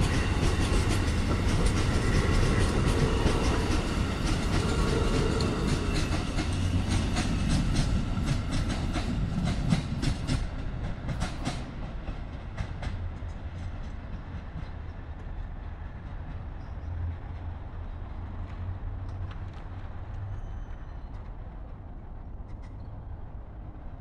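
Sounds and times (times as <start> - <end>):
train wheels clicking over track: 0.0 - 23.2
train rumble: 0.0 - 24.0.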